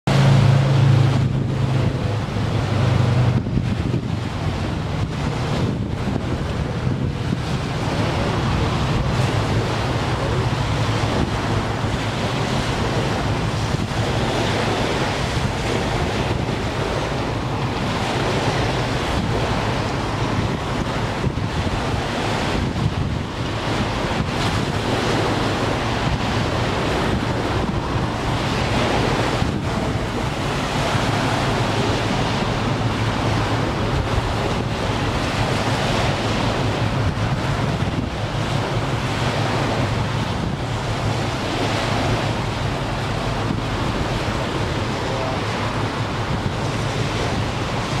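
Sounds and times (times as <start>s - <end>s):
waves washing on choppy water: 0.0s - 48.0s
wind rushing over microphone: 0.1s - 48.0s.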